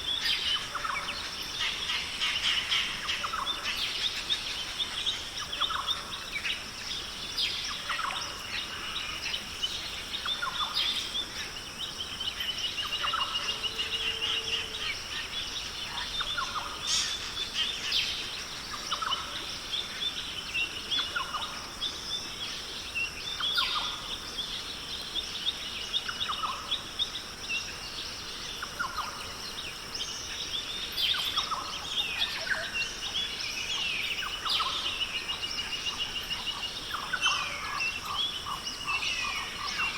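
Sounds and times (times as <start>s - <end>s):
birds calling: 0.0s - 39.9s
steady high-pitched hiss: 0.0s - 39.9s.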